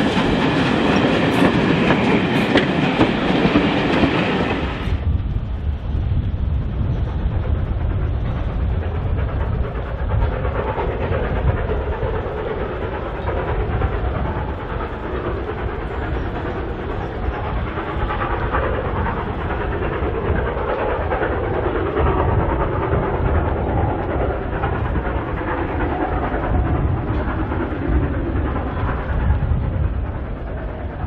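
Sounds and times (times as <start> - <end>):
distant steam train running: 0.0 - 31.0
gusty wind on microphone: 0.0 - 31.0.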